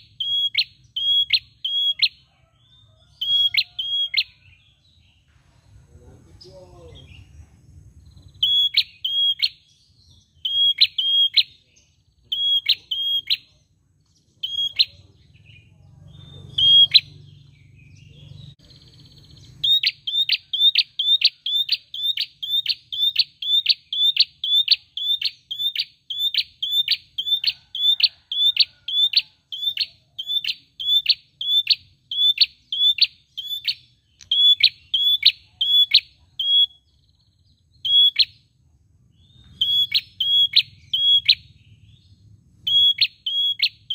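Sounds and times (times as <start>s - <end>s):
bird sharp high chirps: 0.0s - 5.3s, 8.0s - 43.9s.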